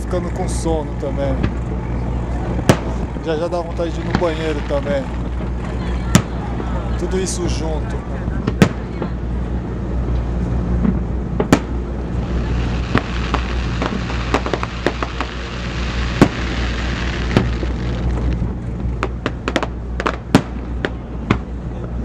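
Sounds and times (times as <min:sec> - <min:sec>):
steady low rumble: 0:00.0 - 0:22.0
crackling fizz of fireworks: 0:01.3 - 0:09.5, 0:10.9 - 0:22.0
fireworks bangs: 0:02.4 - 0:09.4, 0:10.8 - 0:21.6.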